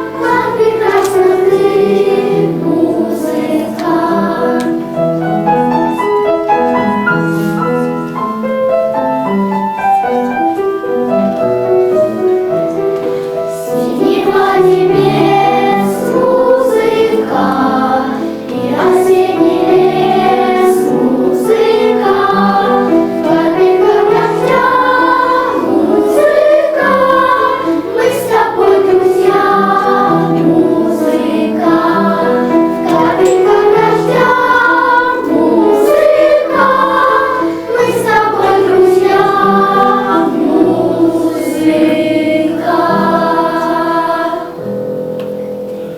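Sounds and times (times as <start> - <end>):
children's choir singing: 0.0 - 45.9
instrumental accompaniment: 0.0 - 45.9.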